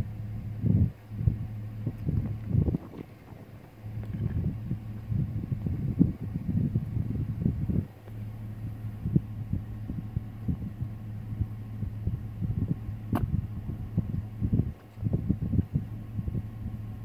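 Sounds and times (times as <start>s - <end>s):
vehicle idling: 0.0s - 17.0s
wind buffeting microphone: 0.4s - 17.0s.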